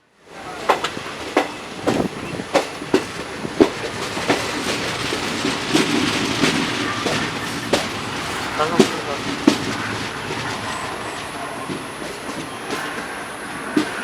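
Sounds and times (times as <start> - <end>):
train wheels clacking on rails: 0.2 - 14.0.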